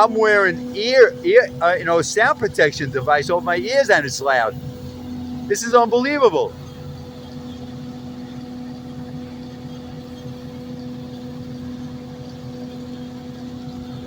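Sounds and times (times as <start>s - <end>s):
vacuum truck droning: 0.0s - 14.0s.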